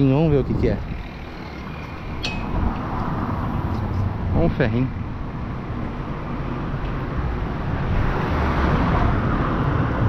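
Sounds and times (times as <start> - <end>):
car going by: 0.0 - 10.0.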